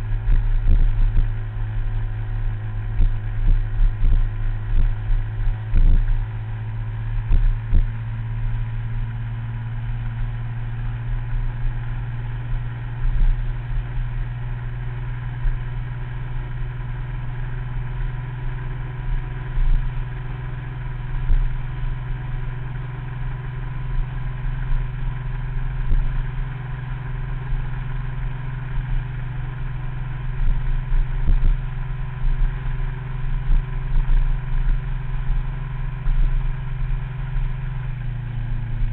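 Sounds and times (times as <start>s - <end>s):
scooter engine humming: 0.0s - 38.9s.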